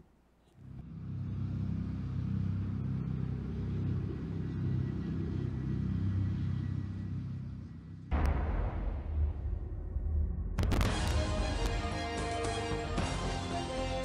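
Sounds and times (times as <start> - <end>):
low rumbling drone: 0.7 - 14.0.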